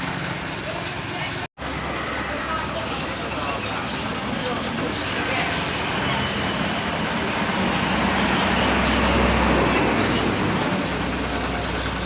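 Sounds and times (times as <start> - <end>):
heavy vehicle engine rumble: 0.0 - 12.0
road traffic noise: 0.0 - 12.0.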